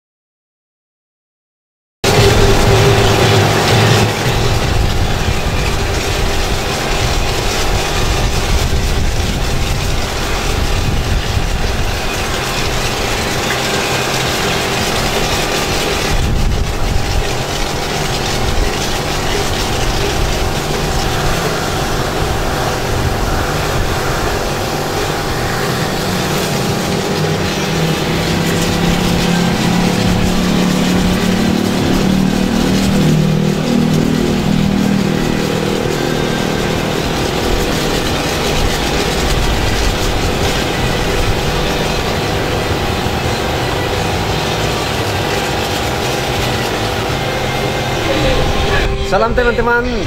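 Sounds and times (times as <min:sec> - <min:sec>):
water spraying on car: 0:02.0 - 0:49.8
pressure washer pump humming: 0:02.0 - 0:50.0.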